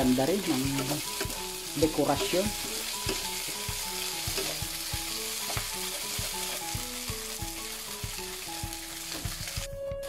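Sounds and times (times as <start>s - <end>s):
food sizzling in a frying pan: 0.0s - 9.7s
soft background music: 0.0s - 10.0s.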